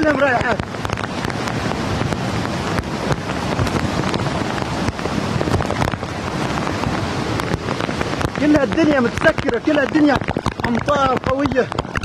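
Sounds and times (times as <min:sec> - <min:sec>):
heavy rain pouring: 0:00.0 - 0:12.0
wind buffeting microphone: 0:00.0 - 0:12.0.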